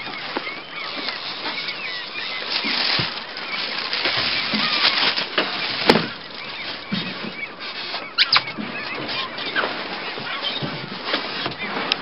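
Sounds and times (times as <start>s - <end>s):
gulls calling and screeching: 0.0s - 12.0s.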